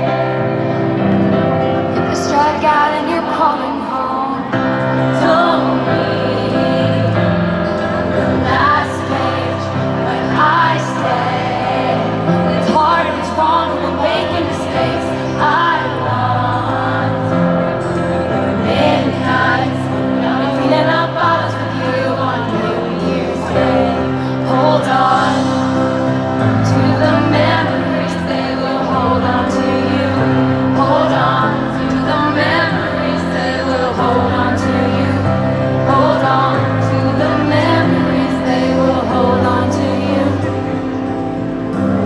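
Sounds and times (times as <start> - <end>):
piano chords: 0.0 - 42.0
woman singing: 2.0 - 42.0.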